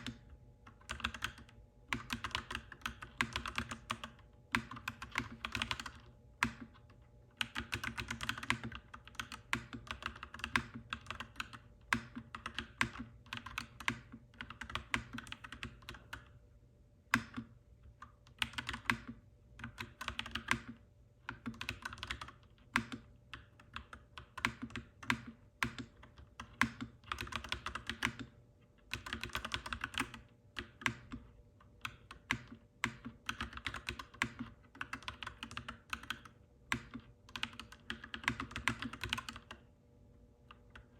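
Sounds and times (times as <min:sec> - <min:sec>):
mechanical keyboard typing: 0:00.0 - 0:16.4, 0:17.1 - 0:39.6, 0:40.5 - 0:40.9.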